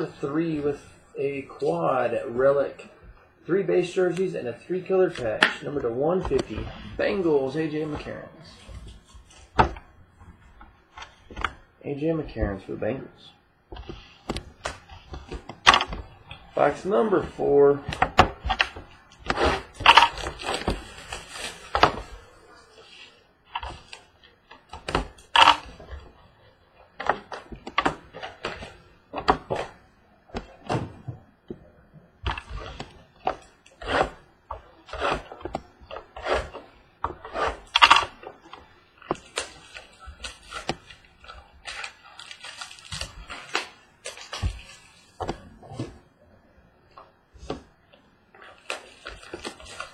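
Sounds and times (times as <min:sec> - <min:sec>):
plastic and cardboard rustling: 0:00.0 - 0:13.1, 0:13.7 - 0:49.9.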